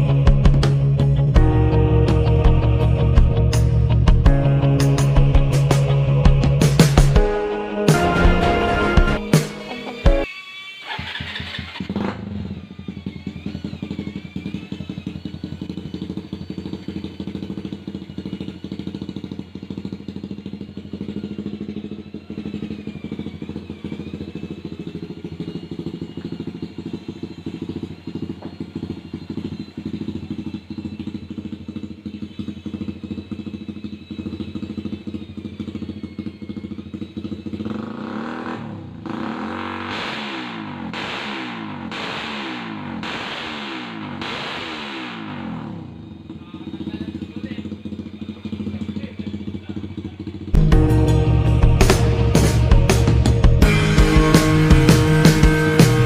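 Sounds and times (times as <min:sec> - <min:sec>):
motorcycle engine idling: 0:00.0 - 0:10.3, 0:10.9 - 0:56.0.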